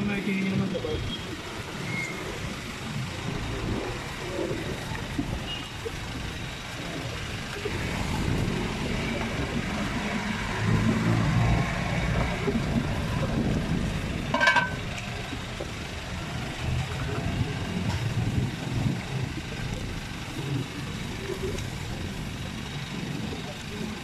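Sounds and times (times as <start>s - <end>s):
street traffic rumbling: 0.0s - 24.0s.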